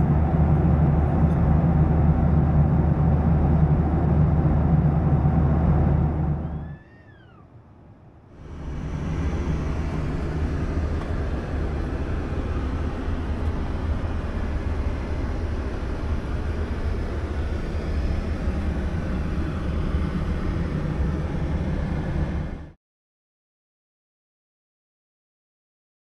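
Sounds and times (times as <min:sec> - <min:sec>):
airplane cabin engine rumble: 0:00.0 - 0:22.8.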